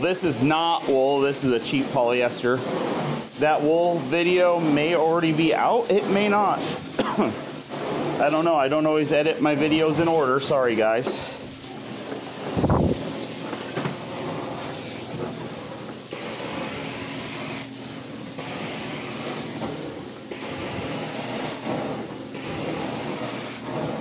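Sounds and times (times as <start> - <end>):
carpet cleaning wand hissing and sucking: 0.0 - 24.0.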